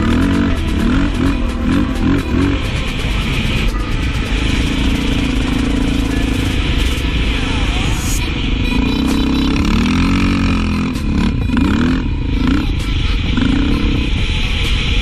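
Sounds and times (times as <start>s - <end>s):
quad engine revving: 0.0s - 7.1s, 8.6s - 14.2s.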